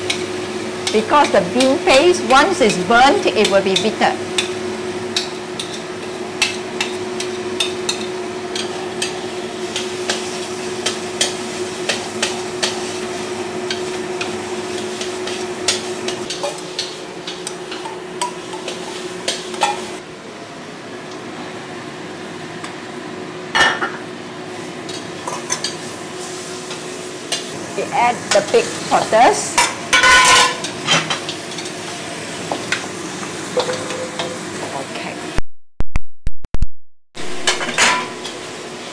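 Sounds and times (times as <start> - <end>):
light sizzle of frying: 0.0 - 35.2, 37.2 - 38.9.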